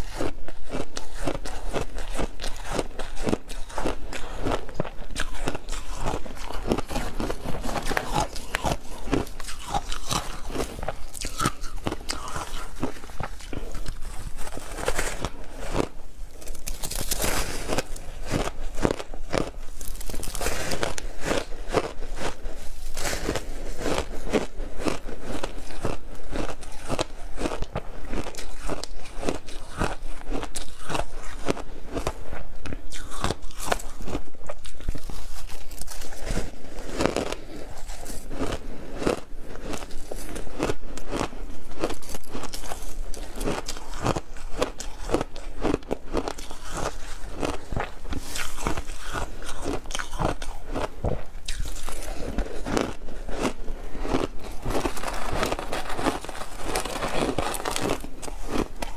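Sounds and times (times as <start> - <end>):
ice crunching between teeth: 0.0 - 58.9.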